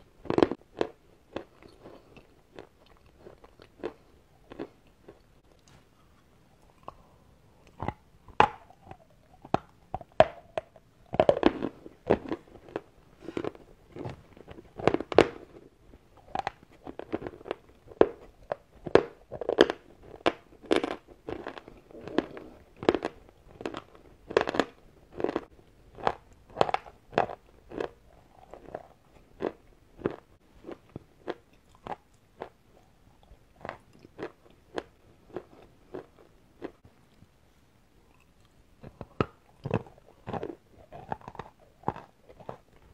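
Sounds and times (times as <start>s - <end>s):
person chewing chalk crunchily: 0.2s - 36.8s, 38.1s - 42.9s.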